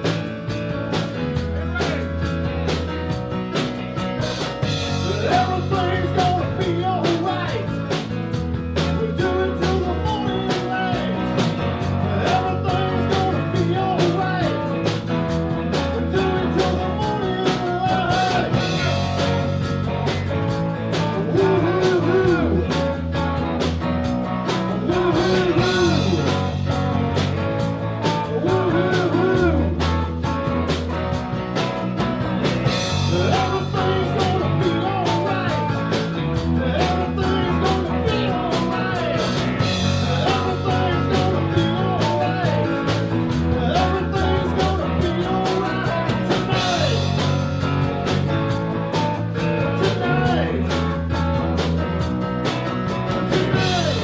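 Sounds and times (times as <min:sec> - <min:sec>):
blues-rock band playing: 0:00.0 - 0:54.0
drum kit beat: 0:00.0 - 0:54.0
electric guitar lead line: 0:00.0 - 0:54.0.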